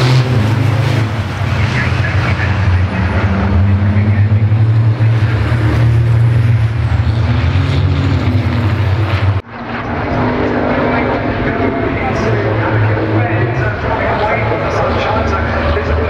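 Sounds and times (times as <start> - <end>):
diesel truck engines racing: 0.0 - 16.0
engine sound: 0.0 - 16.0.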